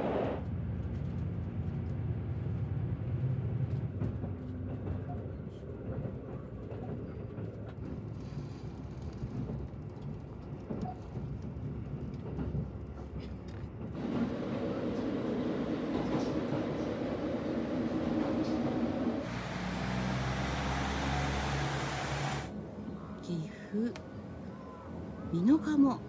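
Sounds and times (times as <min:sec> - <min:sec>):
train ride rumble: 0:00.0 - 0:26.0.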